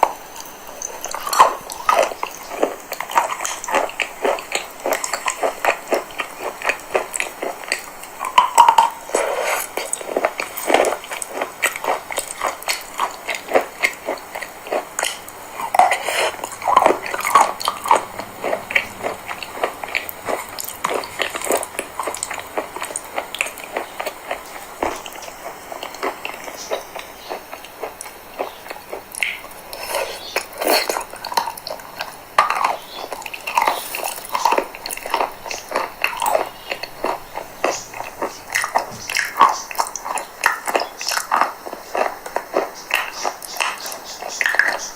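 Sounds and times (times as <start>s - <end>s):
chalk being bitten and chewed: 1.0s - 44.9s.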